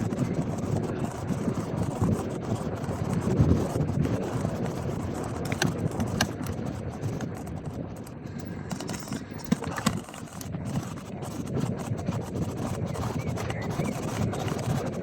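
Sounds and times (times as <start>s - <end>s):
bike clicks and knocks over bumps: 0.0s - 15.0s
bike tyres rolling on gravel: 0.0s - 15.0s
wind buffeting microphone: 0.0s - 15.0s.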